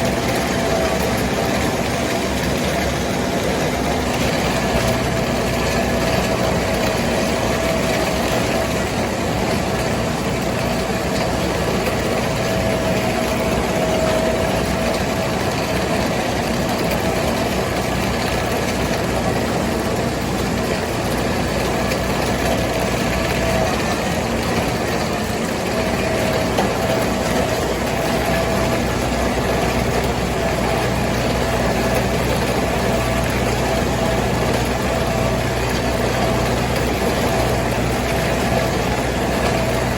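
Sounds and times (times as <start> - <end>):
steady whine: 0.0 - 39.9
tractor engine running: 0.0 - 39.9.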